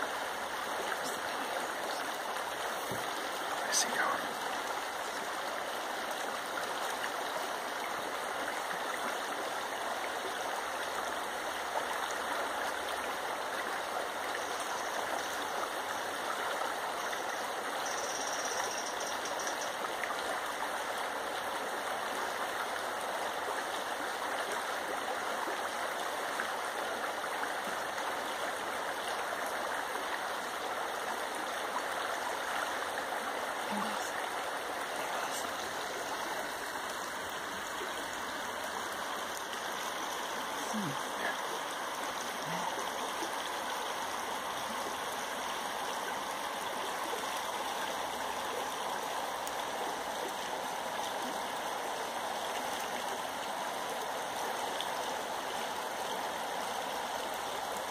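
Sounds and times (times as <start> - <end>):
river water rushing: 0.0 - 57.9.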